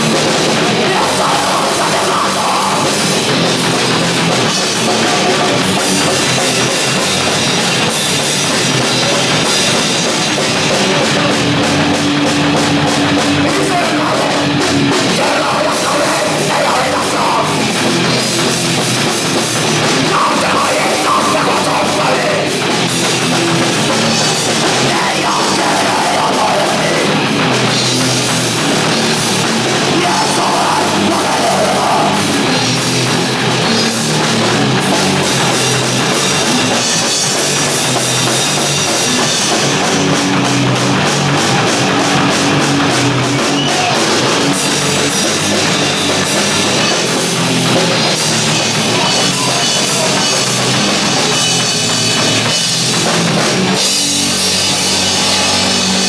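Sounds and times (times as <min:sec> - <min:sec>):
bass guitar: 0:00.0 - 0:56.0
distorted electric guitars: 0:00.0 - 0:56.0
drum kit with crashing cymbals: 0:00.0 - 0:56.0.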